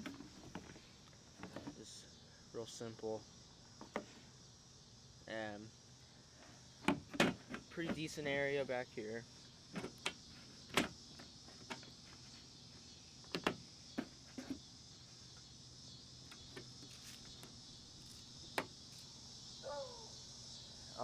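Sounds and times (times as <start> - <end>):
cicada chorus buzzing: 0.0 - 21.0.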